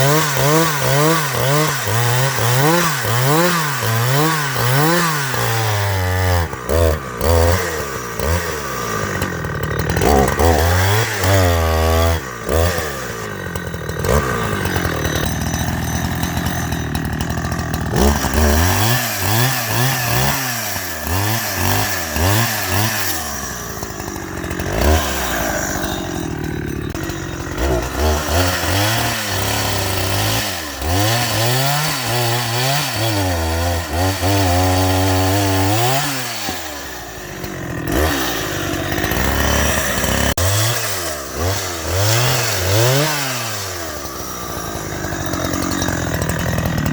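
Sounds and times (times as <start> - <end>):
chainsaw revving cutting wood: 0.0 - 46.9.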